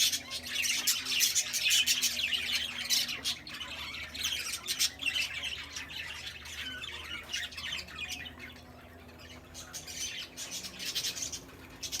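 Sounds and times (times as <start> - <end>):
many birds chirping and squawking: 0.0 - 12.0.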